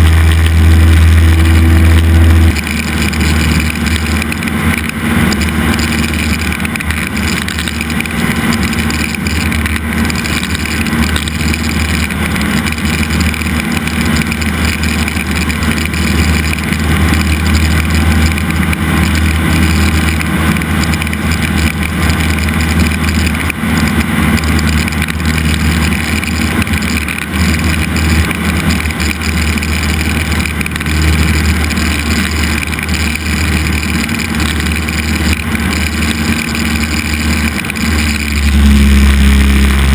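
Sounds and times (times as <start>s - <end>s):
aircraft engine and propeller drone: 0.0s - 39.9s
rushing air: 0.0s - 39.9s.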